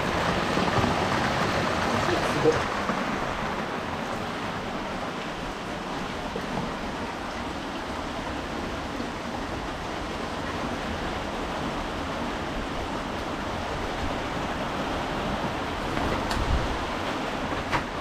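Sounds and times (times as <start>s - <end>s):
heavy rain: 0.0s - 18.0s
running water: 0.0s - 18.0s.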